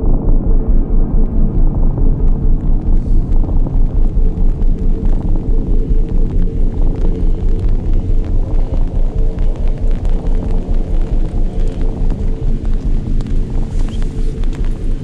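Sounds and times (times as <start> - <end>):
low throbbing drone: 0.0 - 15.0.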